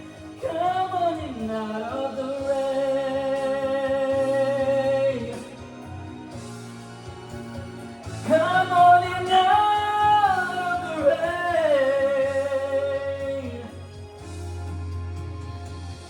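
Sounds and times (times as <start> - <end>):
band accompaniment: 0.0 - 16.0.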